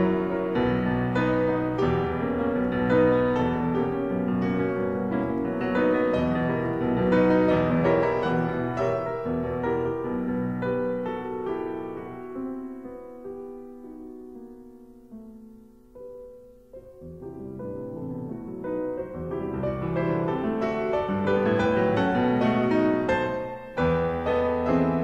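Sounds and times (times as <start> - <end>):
solo piano music: 0.0 - 25.0.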